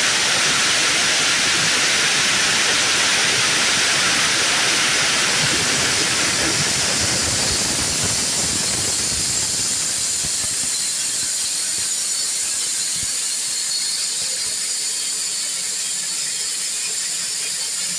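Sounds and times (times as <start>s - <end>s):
band sawmill hissing: 0.0s - 17.9s.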